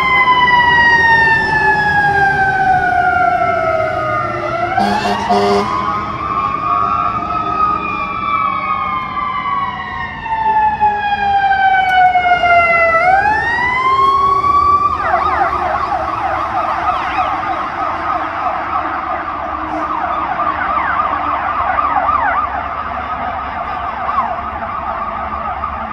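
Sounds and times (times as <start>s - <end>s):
fire engine siren wailing and yelping: 0.0s - 25.9s.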